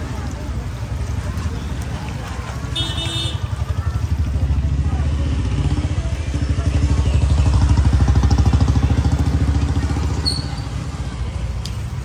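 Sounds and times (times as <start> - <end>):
vehicle engine running: 0.1 - 12.0.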